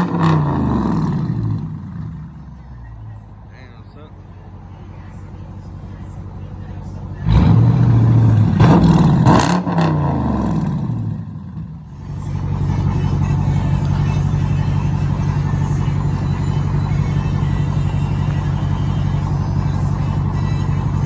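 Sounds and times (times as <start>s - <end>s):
loud engine exhaust revving and idling: 0.0s - 2.7s, 5.0s - 21.0s.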